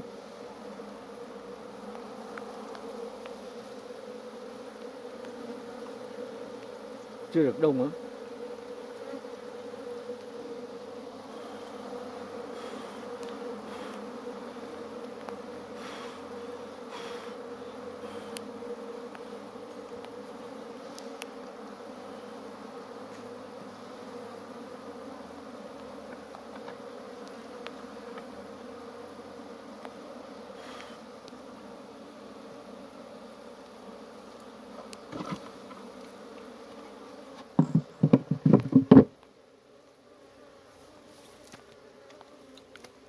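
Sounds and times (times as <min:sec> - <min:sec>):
bees buzzing: 0:00.0 - 0:43.0.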